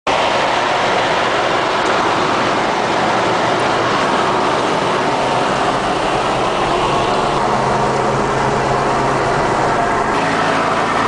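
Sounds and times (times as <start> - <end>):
wheels churning water: 0.1 - 11.0.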